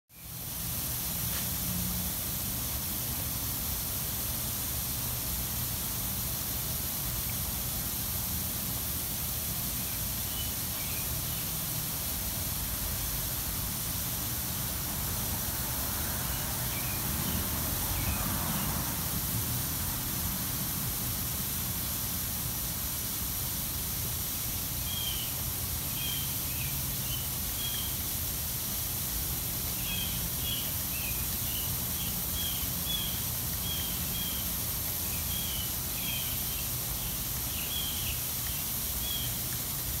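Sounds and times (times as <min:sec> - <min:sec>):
lawn sprinkler hissing: 0:00.1 - 0:40.0.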